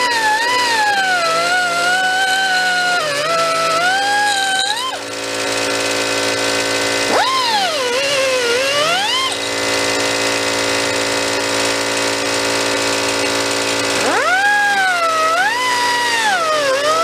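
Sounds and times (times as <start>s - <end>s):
steady machine hum: 0.0s - 16.8s
air die grinder whining: 0.0s - 17.0s.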